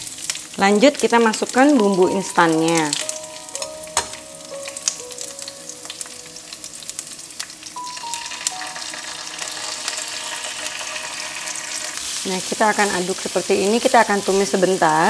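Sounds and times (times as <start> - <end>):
herbs sizzling in hot oil: 0.0 - 15.0.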